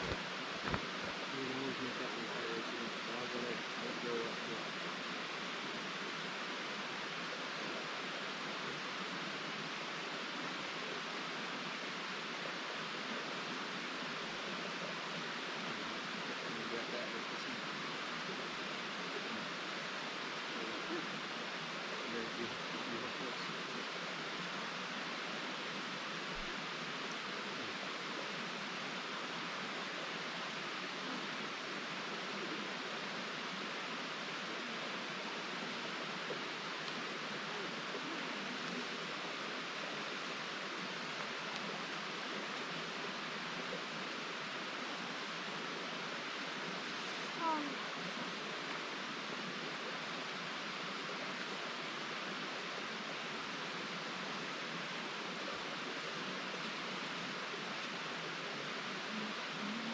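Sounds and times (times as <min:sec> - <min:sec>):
creek water flowing over rocks: 0:00.0 - 0:59.9.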